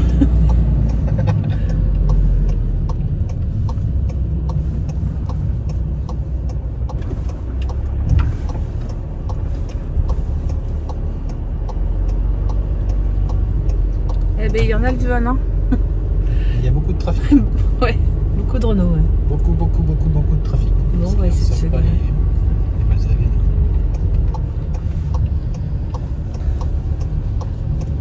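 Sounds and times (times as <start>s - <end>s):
engine and road rumble: 0.0s - 28.0s
light regular ticking: 0.0s - 28.0s.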